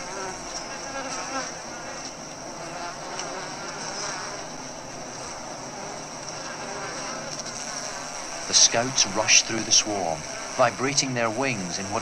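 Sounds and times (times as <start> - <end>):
bees buzzing in a swarm: 0.0 - 12.0.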